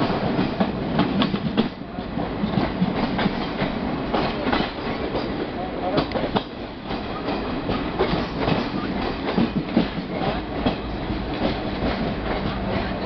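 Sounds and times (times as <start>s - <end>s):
train rolling rumble: 0.0s - 13.0s
train wheels clattering over rails: 0.0s - 13.0s.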